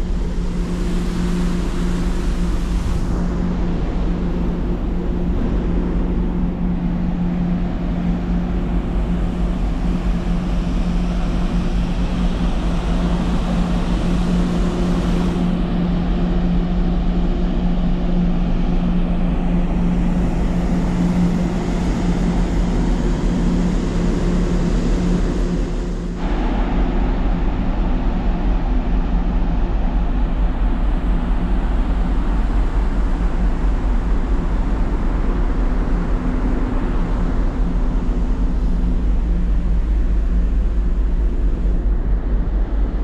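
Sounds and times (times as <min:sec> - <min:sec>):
ship engines low hum: 0:00.0 - 0:43.0.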